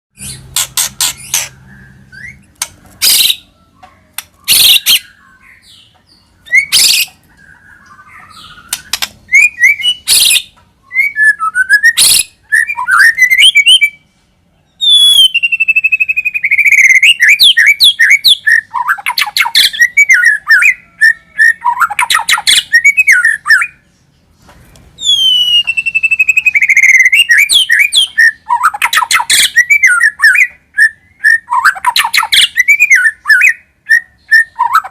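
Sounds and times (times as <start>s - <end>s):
bird song with harsh chattering: 0.1s - 34.9s.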